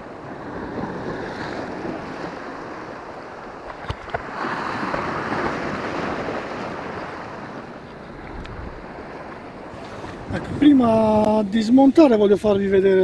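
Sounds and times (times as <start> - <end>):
waves breaking on rocky shore: 0.0 - 13.0.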